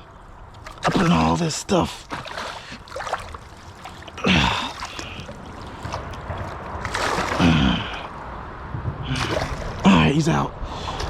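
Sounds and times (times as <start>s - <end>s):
water splashing around boat: 0.0s - 11.0s.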